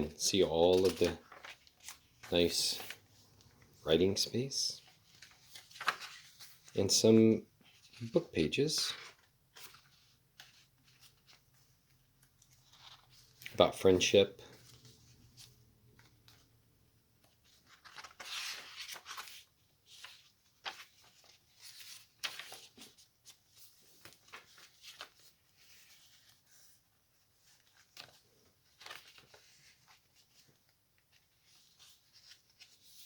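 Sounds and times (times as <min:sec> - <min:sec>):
paper pages rustling: 0:00.0 - 0:07.0, 0:07.6 - 0:16.6, 0:17.2 - 0:33.0.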